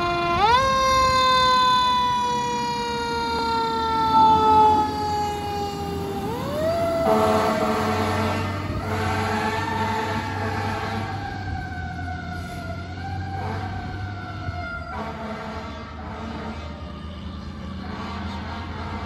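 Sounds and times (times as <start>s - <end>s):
fire truck siren wailing: 0.0s - 19.0s.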